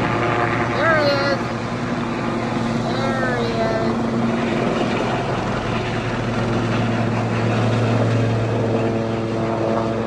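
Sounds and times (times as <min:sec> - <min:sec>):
helicopter flying overhead: 0:00.0 - 0:10.0.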